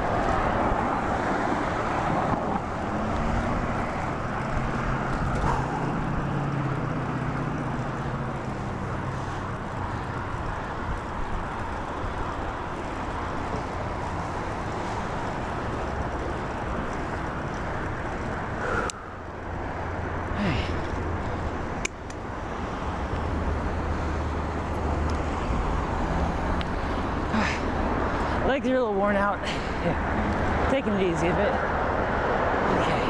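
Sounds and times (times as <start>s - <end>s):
passing vehicle engine hum: 0.0s - 33.0s
road traffic: 0.0s - 33.0s.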